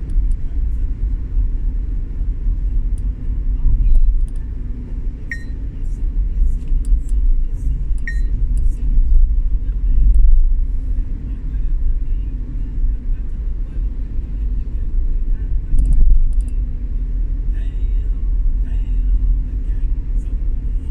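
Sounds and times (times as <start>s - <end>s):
vehicle rumbling on wet street: 0.0s - 20.9s.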